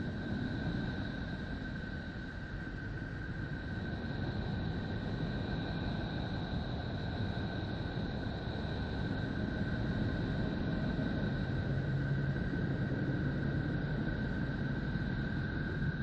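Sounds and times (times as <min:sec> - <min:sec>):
hiss: 0:00.0 - 0:16.0
rumbling drone: 0:00.0 - 0:16.0.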